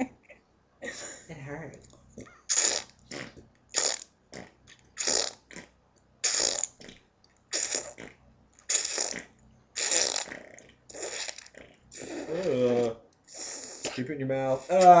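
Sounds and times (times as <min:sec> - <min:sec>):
person making fake fart noises: 0:02.2 - 0:14.0, 0:14.6 - 0:15.0.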